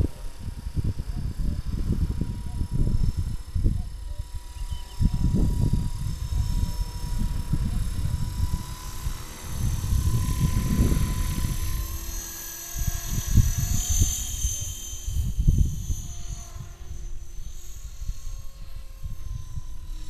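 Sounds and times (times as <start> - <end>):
model helicopter whine: 0.0 - 20.0
wind buffeting microphone: 0.0 - 20.0.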